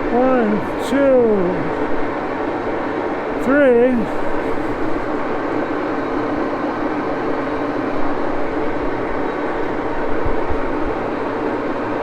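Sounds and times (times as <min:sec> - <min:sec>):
lathe gear train whirring: 0:00.0 - 0:12.0.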